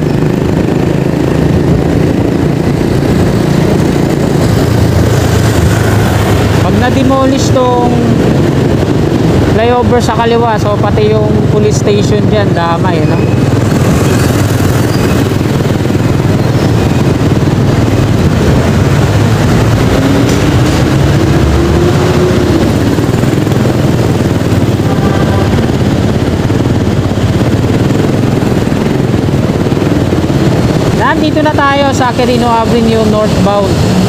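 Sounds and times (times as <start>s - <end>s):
motorcycle engine and road rumble: 0.0s - 34.0s.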